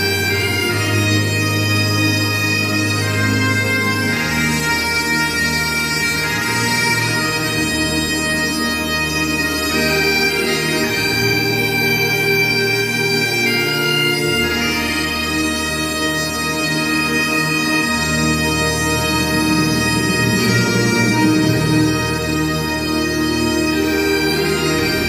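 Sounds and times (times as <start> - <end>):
bagpipe music: 0.0 - 25.0.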